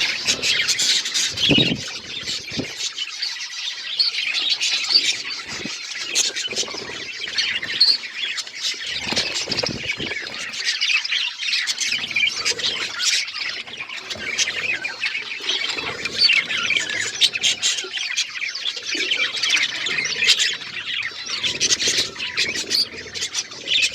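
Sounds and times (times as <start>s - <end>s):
budgerigars chattering and chirping: 0.0s - 23.9s.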